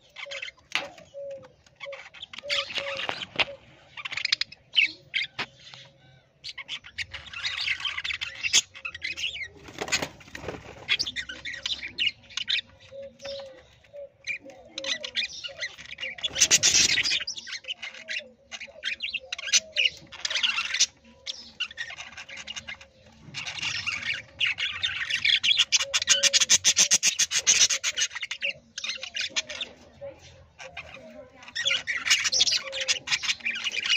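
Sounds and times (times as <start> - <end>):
budgerigars chattering and warbling: 0.0 - 33.9.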